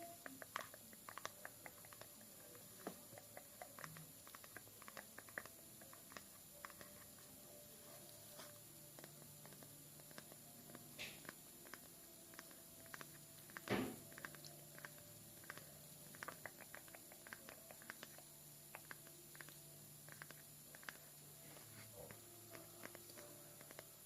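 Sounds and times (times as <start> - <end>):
soft tapping and clicks: 0.0 - 7.3, 8.0 - 24.0
faint steady hum: 0.0 - 24.0.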